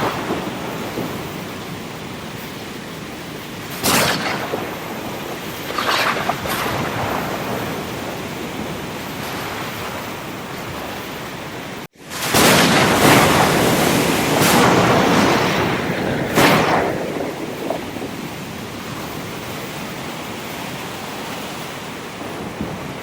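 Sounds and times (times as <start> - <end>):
sea surf rushing: 0.0 - 23.0
waves crashing: 0.0 - 23.0.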